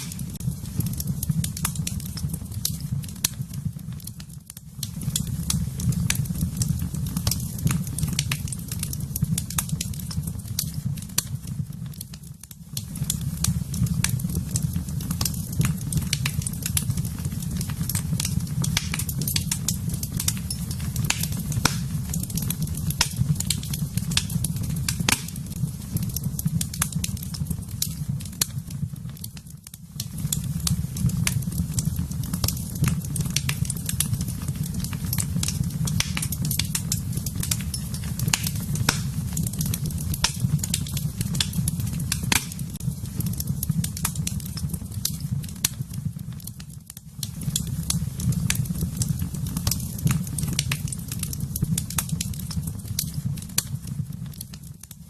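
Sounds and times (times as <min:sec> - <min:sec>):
burning wood crackling and popping: 0:00.0 - 0:55.0
fire rumbling in a fireplace: 0:00.0 - 0:55.0.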